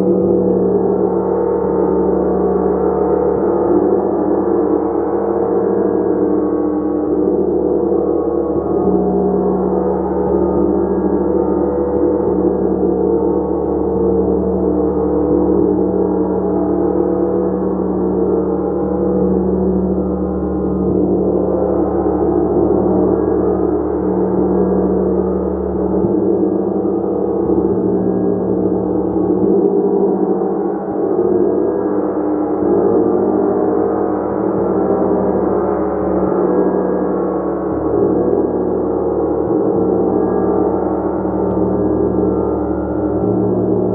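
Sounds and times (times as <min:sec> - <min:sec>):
gong: 0:00.0 - 0:43.9.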